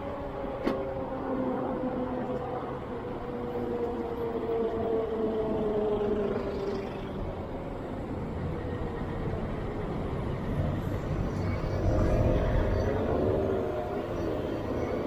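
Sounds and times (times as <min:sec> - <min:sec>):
steady road noise: 0:00.0 - 0:15.0.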